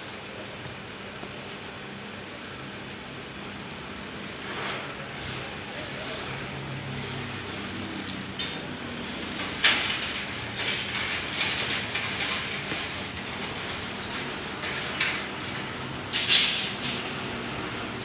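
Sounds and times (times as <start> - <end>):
handling sounds: 0.0 - 2.4, 3.2 - 15.2.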